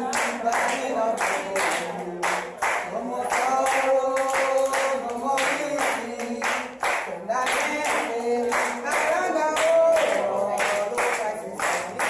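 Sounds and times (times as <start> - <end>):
hands clapping: 0.0 - 12.0
women and children singing: 0.0 - 12.0.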